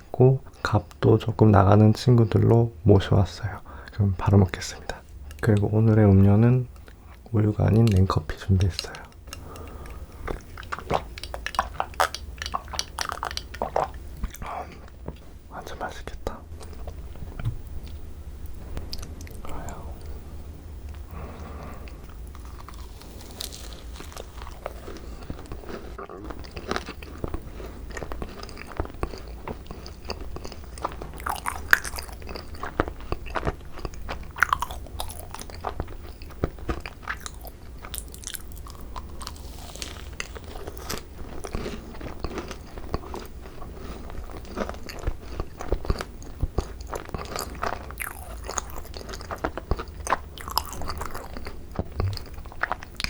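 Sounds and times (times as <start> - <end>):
soft moist chewing: 0.0 - 53.0
crunching macaron shells: 4.5 - 15.7, 20.9 - 53.0.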